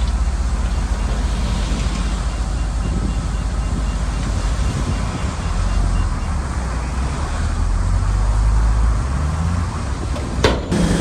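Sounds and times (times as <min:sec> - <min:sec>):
bulldozer diesel engine rumbling: 0:00.0 - 0:11.0.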